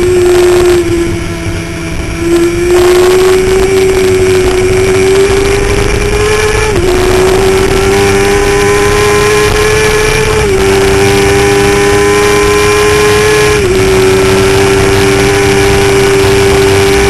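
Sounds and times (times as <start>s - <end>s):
motorcycle engine at high revs: 0.0s - 17.0s
wind rush: 0.0s - 17.0s.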